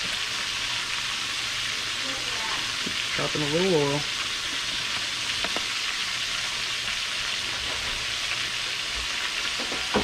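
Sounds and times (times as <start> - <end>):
meat deep-frying in hot oil: 0.0 - 10.0.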